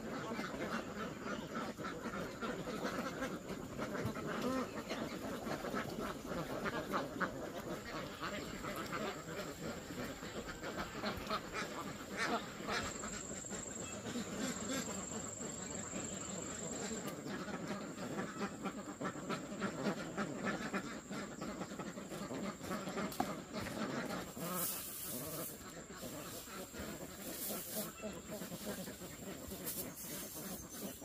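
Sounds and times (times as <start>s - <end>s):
ducks quacking: 0.0s - 31.0s.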